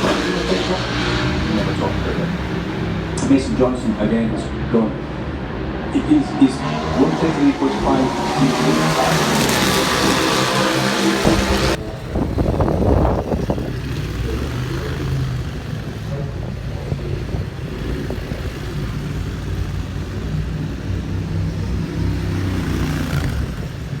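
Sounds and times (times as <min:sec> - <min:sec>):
engine bursts: 0:00.0 - 0:24.0
race motorcycle engines rumbling: 0:00.0 - 0:24.0.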